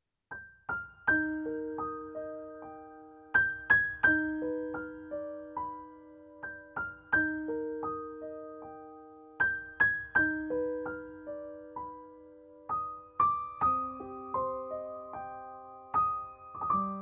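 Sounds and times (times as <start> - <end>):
soft piano melody: 0.3 - 17.0.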